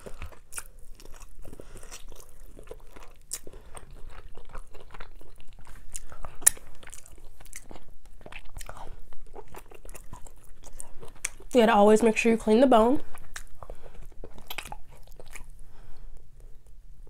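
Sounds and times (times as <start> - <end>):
person chewing meat off a rib: 0.0 - 11.6, 13.0 - 16.7.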